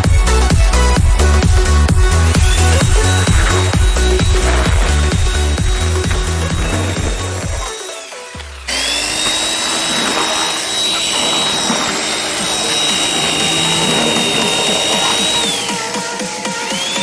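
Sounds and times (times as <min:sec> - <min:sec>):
background music: 0:00.0 - 0:17.0
chainsaw motor whining: 0:00.0 - 0:17.0.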